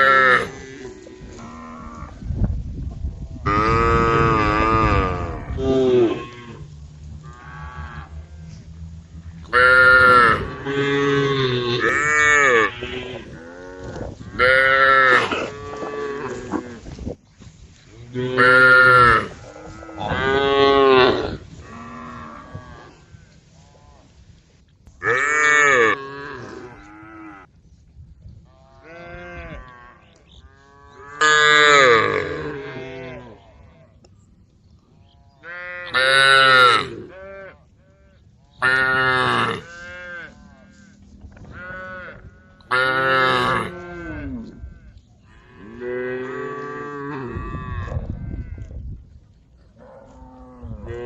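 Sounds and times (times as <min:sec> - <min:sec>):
cows mooing: 0:00.0 - 0:02.2, 0:03.4 - 0:16.9, 0:18.1 - 0:24.0, 0:25.0 - 0:27.5, 0:28.6 - 0:33.8, 0:35.4 - 0:48.8, 0:49.8 - 0:51.0.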